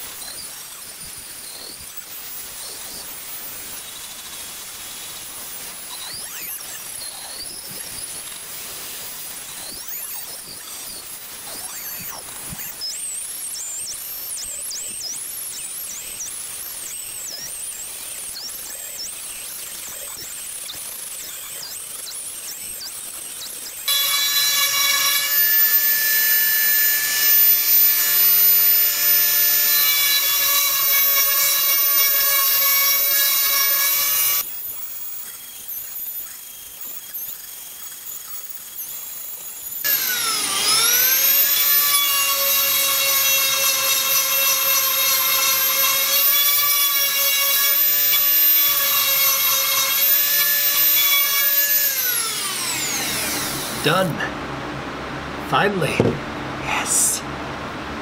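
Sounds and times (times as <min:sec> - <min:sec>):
rotary tool grinding whine: 0:00.0 - 0:54.1.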